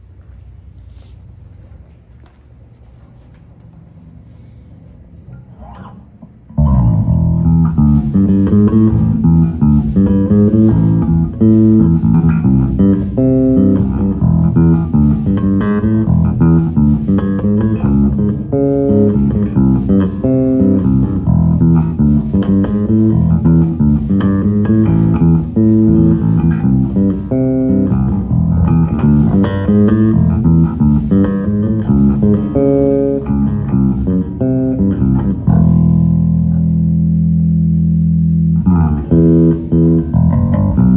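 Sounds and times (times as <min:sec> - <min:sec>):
electric bass playing notes: 0:05.5 - 0:40.9.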